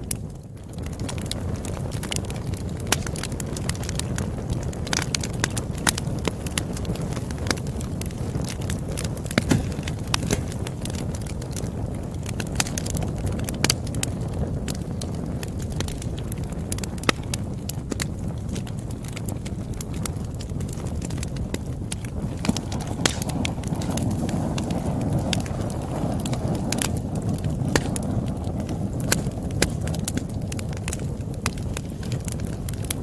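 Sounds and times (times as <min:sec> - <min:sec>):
burning wood crackling: 0:00.0 - 0:33.0
campfire roaring: 0:00.0 - 0:33.0.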